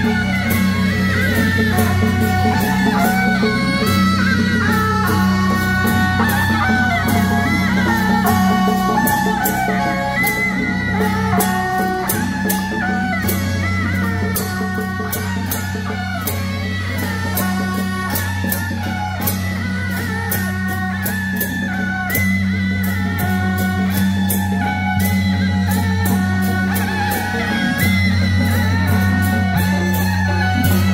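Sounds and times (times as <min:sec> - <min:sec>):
rapid cymbal clashes: 0:00.0 - 0:30.9.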